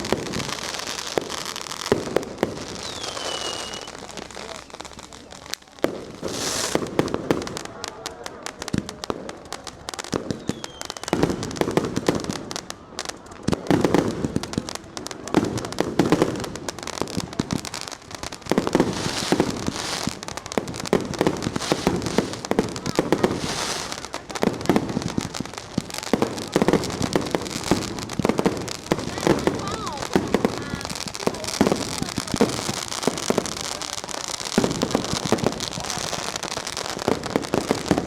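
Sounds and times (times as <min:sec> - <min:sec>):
fireworks and firecrackers banging: 0:00.0 - 0:38.0.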